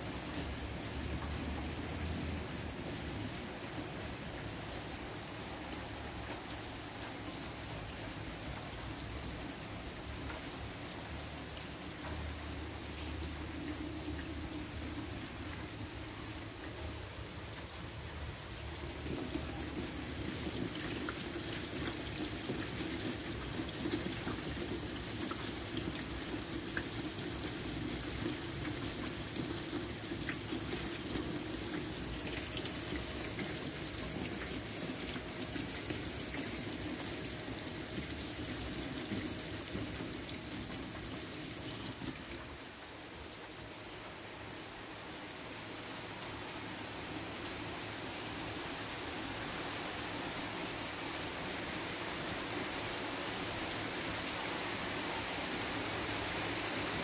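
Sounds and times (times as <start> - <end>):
rain splashing into puddles: 0.0 - 57.0.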